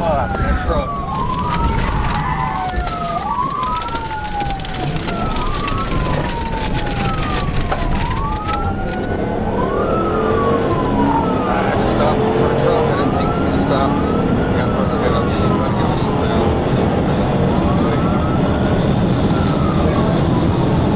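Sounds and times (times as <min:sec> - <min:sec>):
police siren wailing: 0:00.0 - 0:20.9
road and engine noise: 0:00.0 - 0:20.9.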